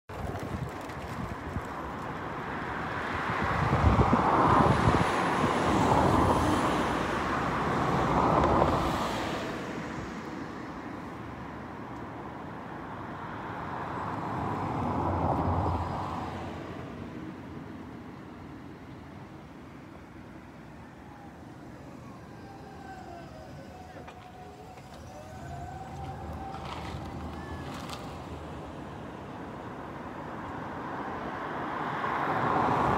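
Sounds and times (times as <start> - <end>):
cars passing: 0.1 - 32.9.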